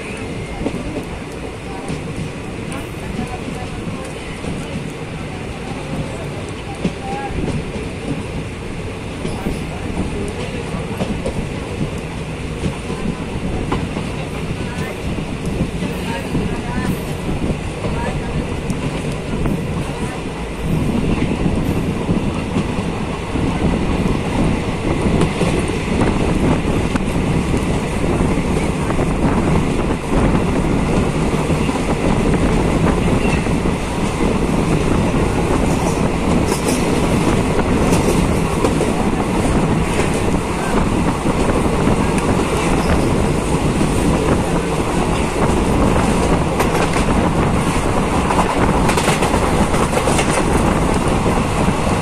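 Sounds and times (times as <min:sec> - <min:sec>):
train running: 0:00.0 - 0:52.0.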